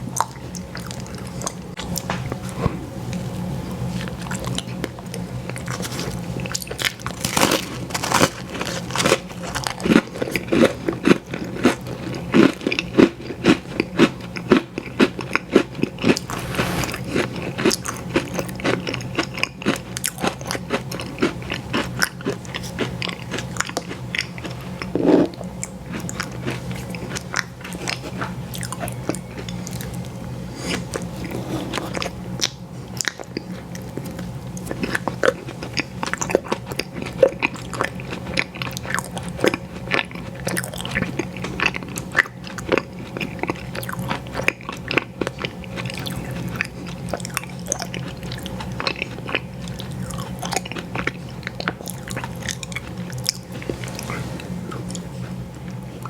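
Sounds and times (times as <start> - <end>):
crunchy chewing: 0.2 - 56.0.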